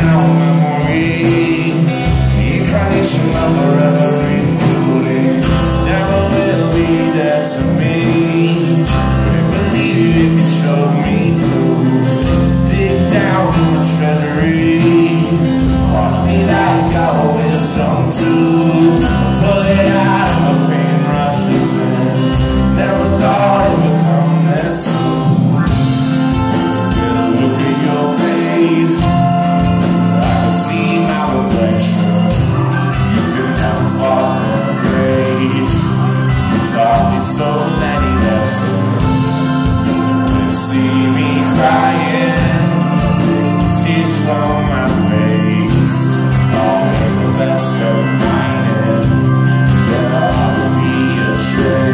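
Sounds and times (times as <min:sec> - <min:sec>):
reggae rock band playing live: 0:00.0 - 0:51.9.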